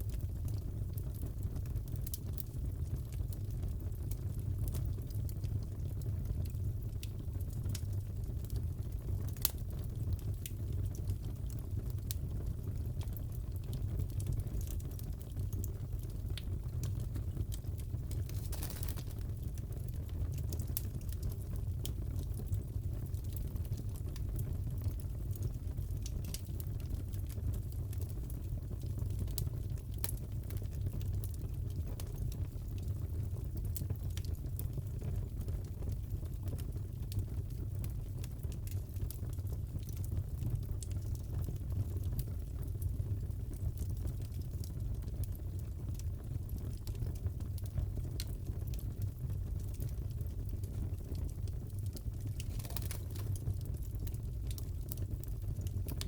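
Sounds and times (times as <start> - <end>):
fire pops and snaps: 0.0 - 56.0
wood fire crackling: 0.0 - 56.0.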